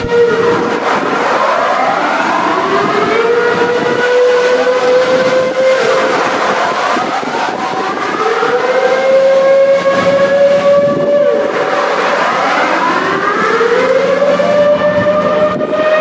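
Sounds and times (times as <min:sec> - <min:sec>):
warning sirens wailing: 0:00.0 - 0:16.0.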